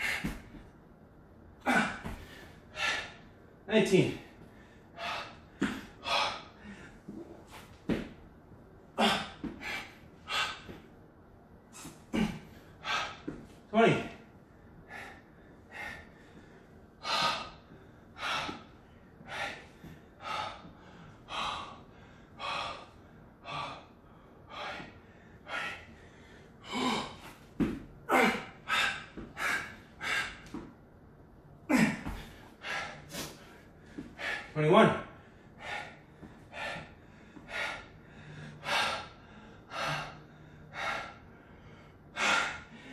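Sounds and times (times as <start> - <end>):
man panting heavily: 0.0 - 0.7, 1.6 - 8.1, 8.9 - 11.0, 11.7 - 30.8, 31.6 - 42.9.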